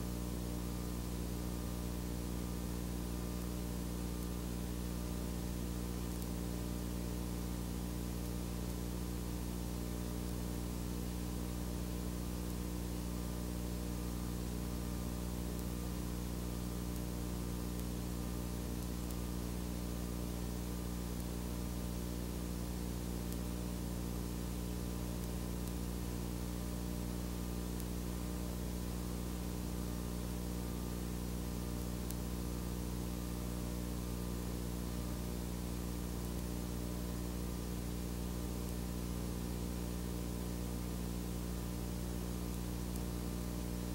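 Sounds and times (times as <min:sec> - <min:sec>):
constant hiss: 0:00.0 - 0:43.9
electrical hum: 0:00.0 - 0:43.9.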